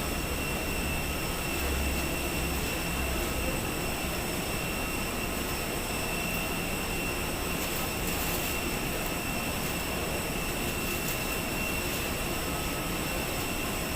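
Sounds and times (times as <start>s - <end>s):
jet airliner rumble and whine: 0.0s - 13.9s.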